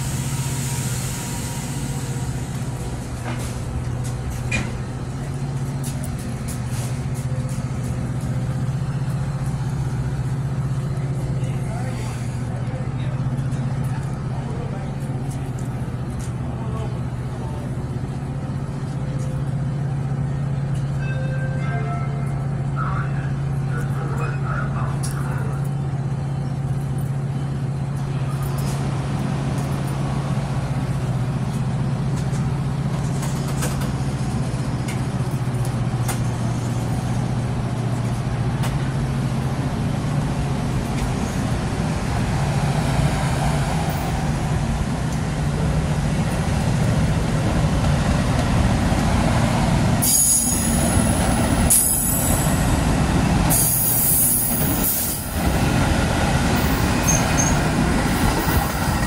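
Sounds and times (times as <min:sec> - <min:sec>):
train low hum: 0:00.0 - 0:59.0.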